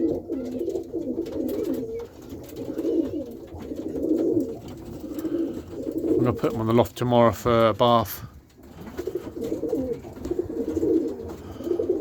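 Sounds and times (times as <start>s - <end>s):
pigeons cooing: 0.0s - 7.4s, 8.2s - 12.0s.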